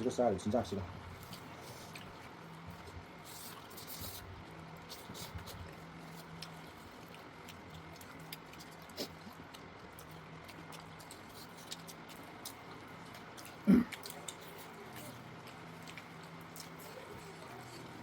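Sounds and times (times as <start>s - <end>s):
chewing mouth smacks: 1.1s - 18.0s.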